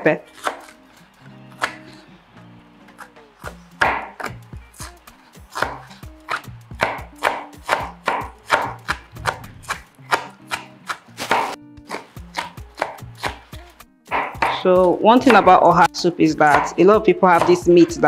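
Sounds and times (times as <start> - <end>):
knife chopping onion: 0.0 - 2.1, 2.9 - 18.0.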